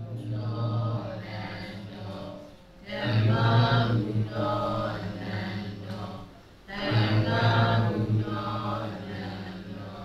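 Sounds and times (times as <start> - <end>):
low voices chanting in unison: 0.0 - 10.0.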